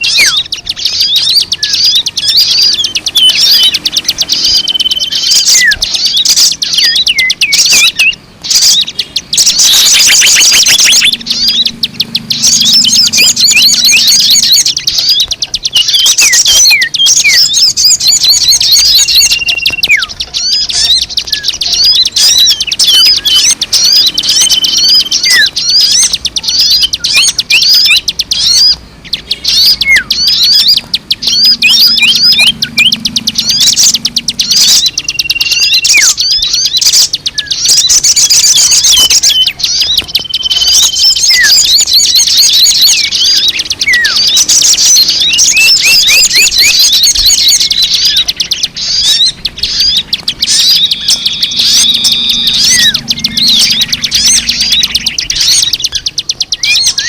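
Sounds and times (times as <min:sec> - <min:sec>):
birds chirping and twittering: 0:00.0 - 0:57.0
whistled bird notes: 0:00.0 - 0:57.0.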